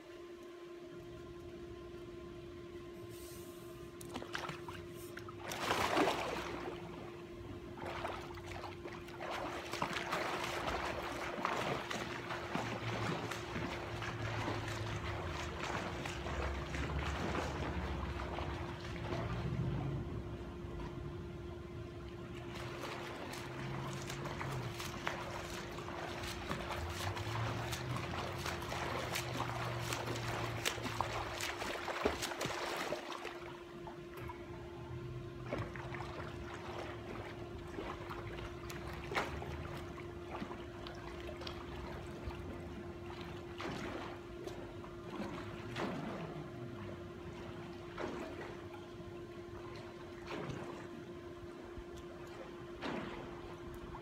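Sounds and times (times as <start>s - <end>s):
steady hum: 0.0s - 54.0s
pool water splashing: 0.6s - 54.0s.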